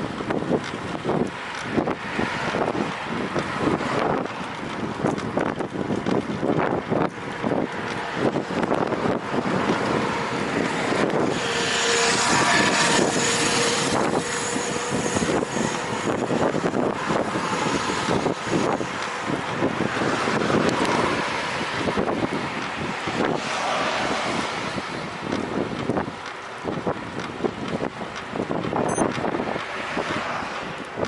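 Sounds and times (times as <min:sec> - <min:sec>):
bicycle creaking: 0:00.0 - 0:31.0
wind buffeting microphone: 0:00.0 - 0:31.0.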